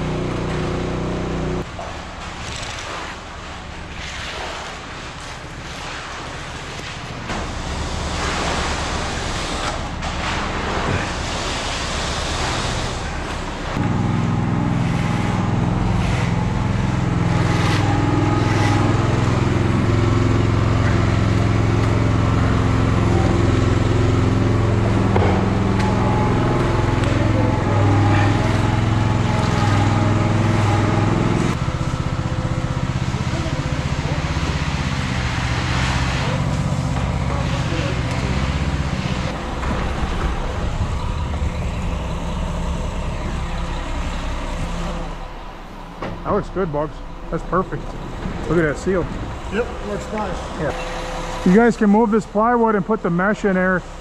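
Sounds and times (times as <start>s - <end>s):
diesel truck engine running: 0.0s - 2.2s, 7.3s - 54.0s.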